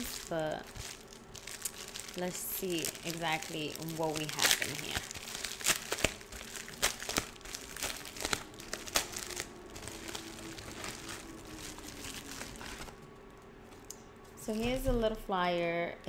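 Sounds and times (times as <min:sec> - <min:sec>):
packet crinkling and rustling: 0:00.0 - 0:13.9.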